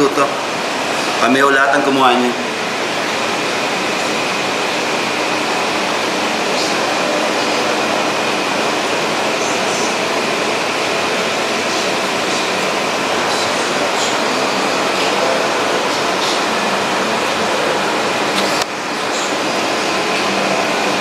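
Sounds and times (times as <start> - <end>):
cooling fan noise: 0.0 - 21.0
faint high whine: 0.0 - 21.0.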